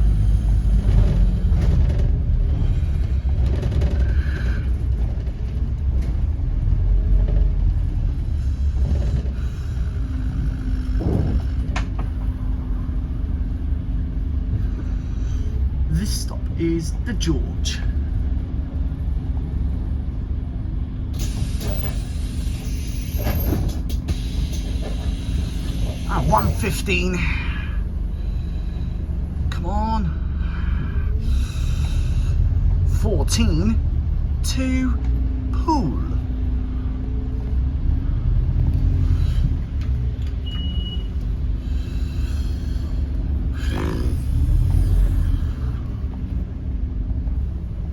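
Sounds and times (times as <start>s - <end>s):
bus engine rumbling: 0.0s - 47.9s.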